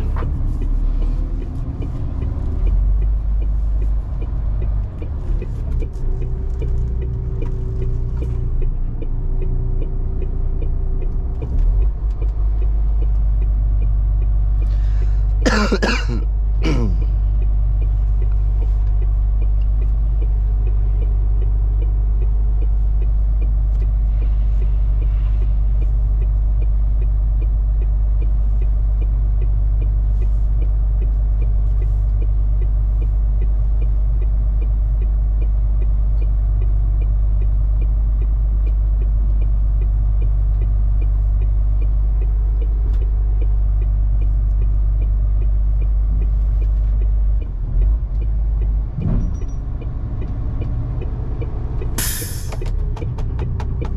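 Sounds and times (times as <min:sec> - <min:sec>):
truck engine droning: 0:00.0 - 0:53.9.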